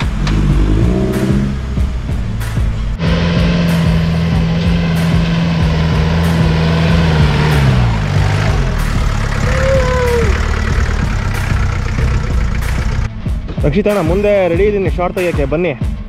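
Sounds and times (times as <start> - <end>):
off-road vehicle engine climbing: 0.0 - 13.3.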